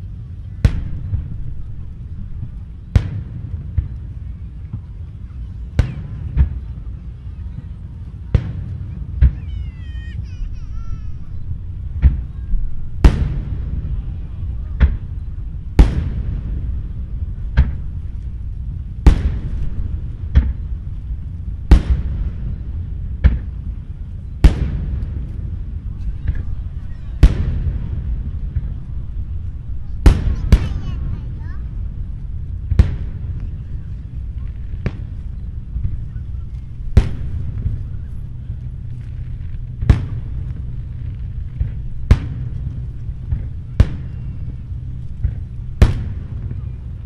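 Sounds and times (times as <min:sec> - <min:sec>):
low rumble of distant bursts: 0:00.0 - 0:47.0.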